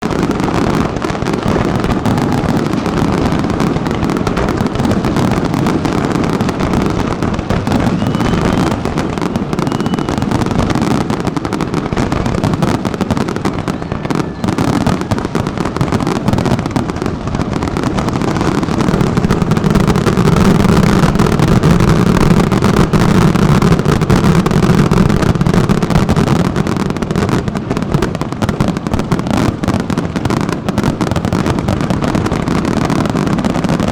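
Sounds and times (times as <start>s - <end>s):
deep fireworks booms: 0.0s - 33.9s
fireworks bursting and crackling: 0.0s - 33.9s.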